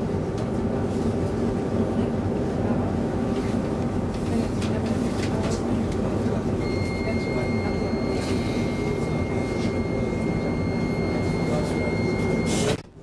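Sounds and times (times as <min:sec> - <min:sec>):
train interior hum and rumble: 0:00.0 - 0:13.0.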